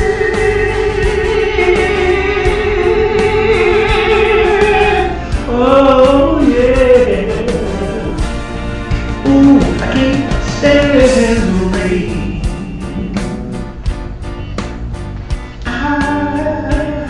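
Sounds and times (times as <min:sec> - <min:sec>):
person singing: 0:00.0 - 0:08.4, 0:09.2 - 0:13.8, 0:15.6 - 0:17.0
karaoke backing track: 0:00.0 - 0:17.0.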